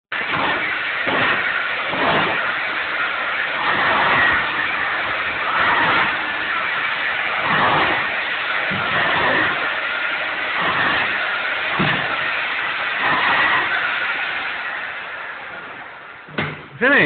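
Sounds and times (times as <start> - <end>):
demolition hammer running: 0.1 - 17.0.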